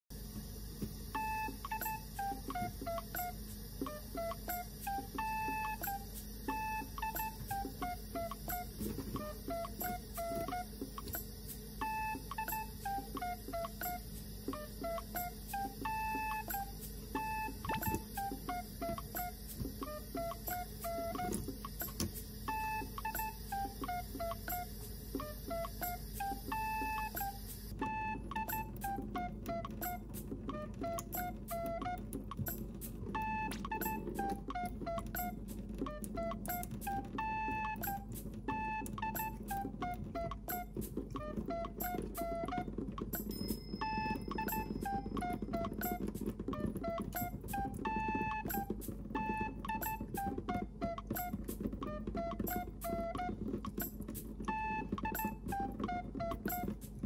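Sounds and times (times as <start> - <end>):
light ticking beat: 0.2 - 57.0
beep-like electronic melody: 1.1 - 56.8.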